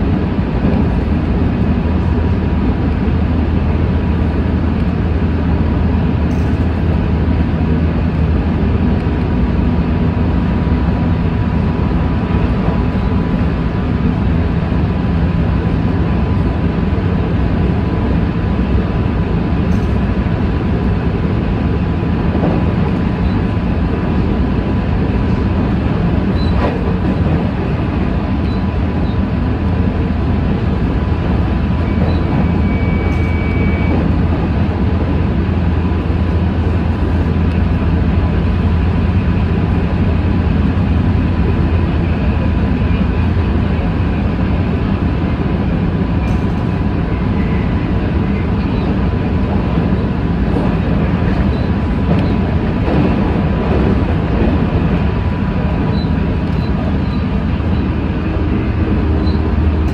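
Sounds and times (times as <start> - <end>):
electric train rumble: 0.0 - 59.9.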